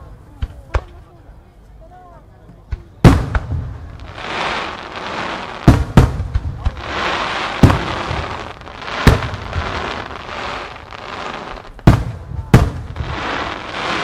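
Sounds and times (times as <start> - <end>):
firework shells booming: 2.7 - 14.0.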